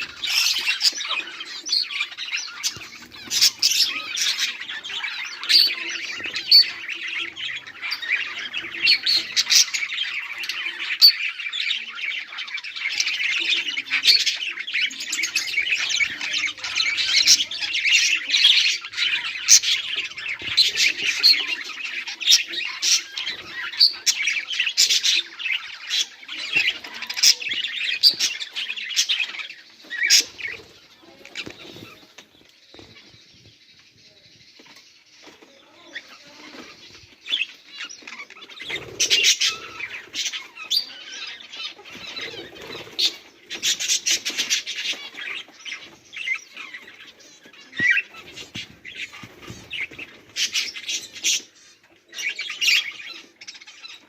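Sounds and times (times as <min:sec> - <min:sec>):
budgerigars chirping and chattering: 0:00.0 - 0:54.0.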